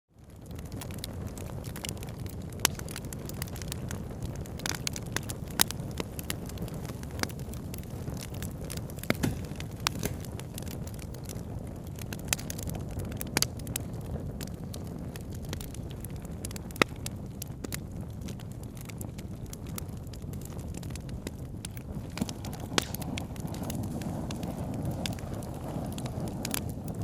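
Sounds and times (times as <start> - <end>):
campfire crackling: 0.2 - 27.0.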